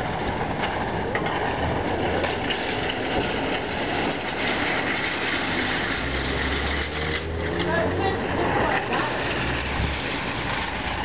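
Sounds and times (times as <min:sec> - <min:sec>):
mechanical rumble and rattle: 0:00.0 - 0:07.7, 0:08.3 - 0:11.0.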